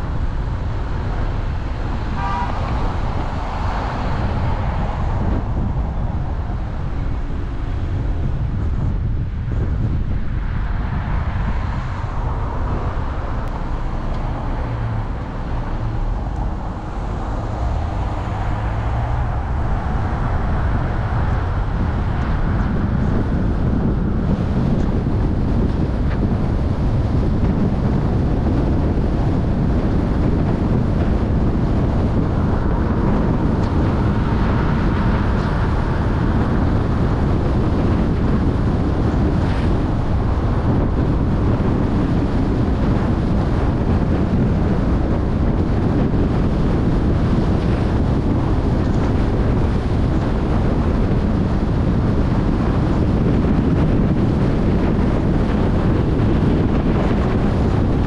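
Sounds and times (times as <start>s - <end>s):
car road noise: 0.0s - 58.0s
wind rumble on microphone: 0.0s - 58.0s.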